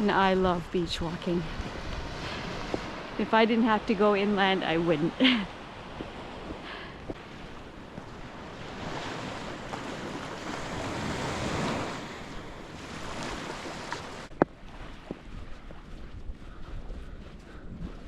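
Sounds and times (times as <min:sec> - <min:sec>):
ocean surf on sandy beach: 0:00.0 - 0:15.3.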